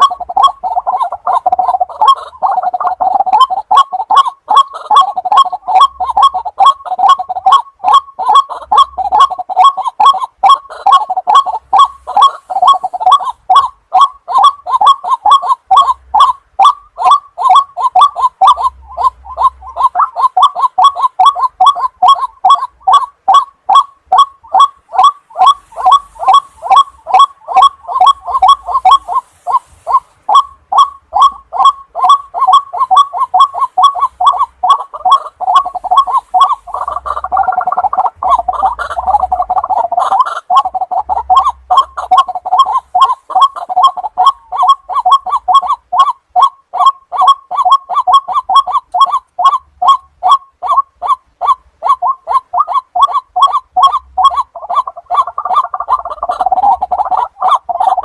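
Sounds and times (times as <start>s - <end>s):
waterhen calling harsh notes: 0.0s - 58.0s.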